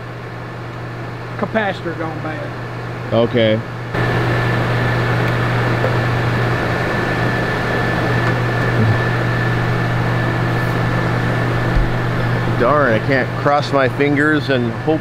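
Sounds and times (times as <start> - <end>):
air conditioner fan hum: 0.0 - 15.0.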